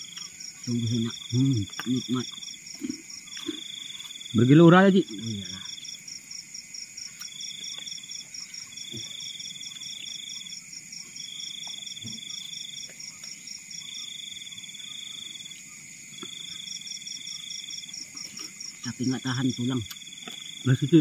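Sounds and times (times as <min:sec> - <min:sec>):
insect high trilling call: 0:00.0 - 0:21.0
insect pulsing call: 0:00.0 - 0:21.0.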